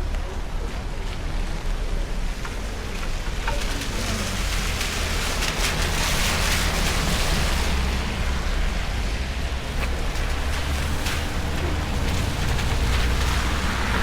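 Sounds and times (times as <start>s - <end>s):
rain hiss: 0.4s - 14.0s.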